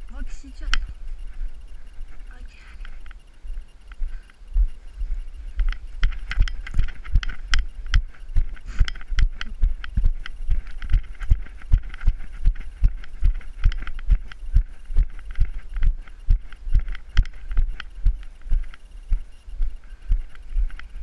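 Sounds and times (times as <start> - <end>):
running footsteps on dirt: 0.0 - 21.0.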